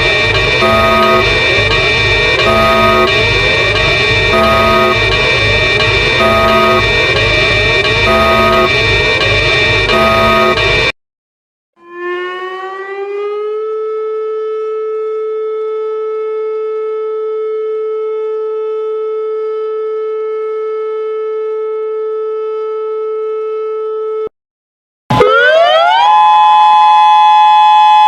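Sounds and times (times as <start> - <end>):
warning siren winding up: 0.0 - 10.9, 11.8 - 24.3, 25.1 - 28.0.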